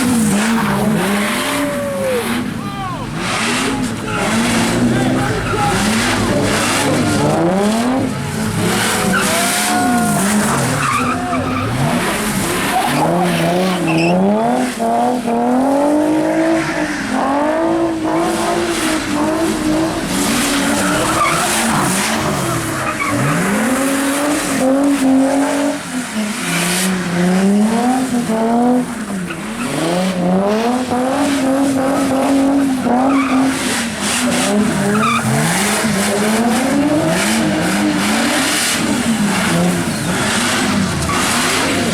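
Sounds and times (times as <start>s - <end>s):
car engine revving: 0.0s - 41.9s
tyres skidding on wet pavement: 0.0s - 41.9s.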